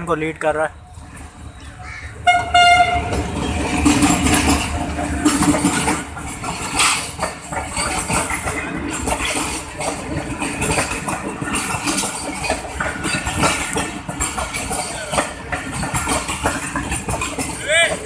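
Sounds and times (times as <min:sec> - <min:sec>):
train carriages rumbling and rattling: 0:00.0 - 0:18.0
wheels clattering on track: 0:00.0 - 0:18.0.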